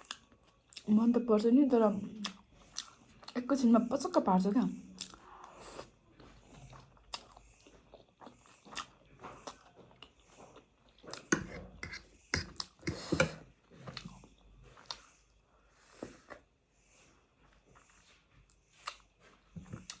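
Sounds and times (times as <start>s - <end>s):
person chewing and eating: 0.0s - 0.9s, 2.2s - 3.4s, 5.0s - 16.6s, 17.2s - 20.0s.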